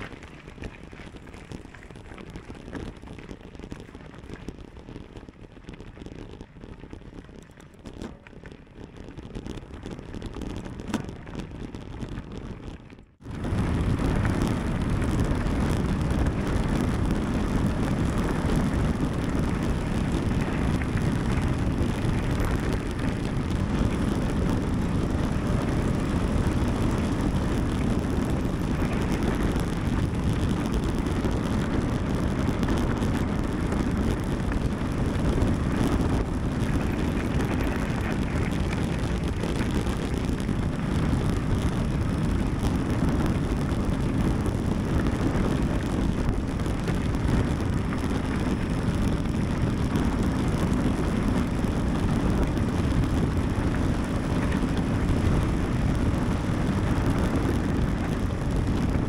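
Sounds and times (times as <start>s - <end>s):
tyres rumbling on trail: 0.0s - 59.0s
wind rushing on microphone: 0.0s - 59.0s.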